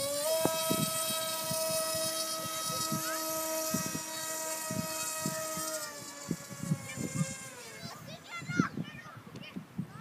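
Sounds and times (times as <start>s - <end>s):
electric motor propeller whine: 0.0s - 8.8s.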